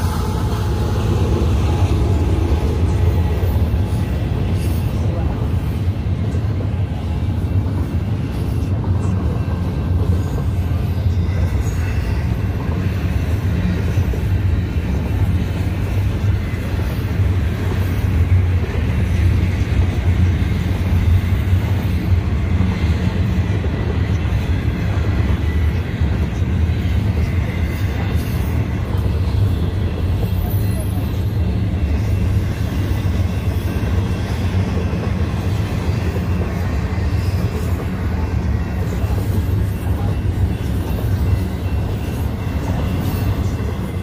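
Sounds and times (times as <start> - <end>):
freight train rumbling and clattering: 0.0 - 44.0.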